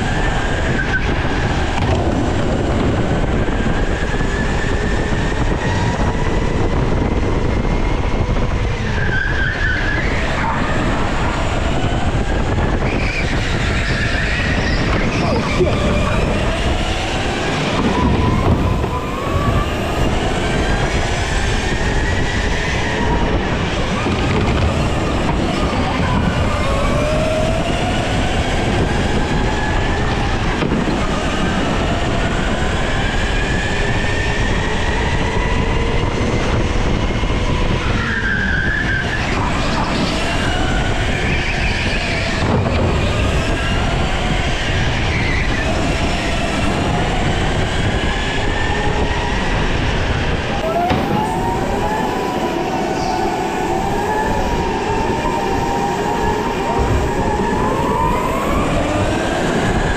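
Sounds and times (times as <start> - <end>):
go-kart motors whining: 0.0 - 59.9.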